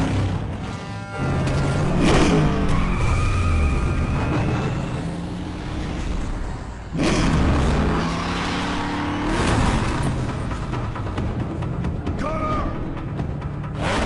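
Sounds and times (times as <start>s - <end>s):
truck engine revving: 0.0s - 12.0s, 13.3s - 14.0s.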